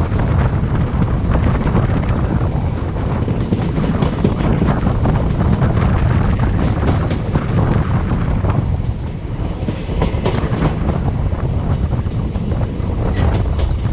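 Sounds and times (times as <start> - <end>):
train wheels rumbling on rails: 0.0 - 13.9
wind buffeting microphone: 0.0 - 13.9.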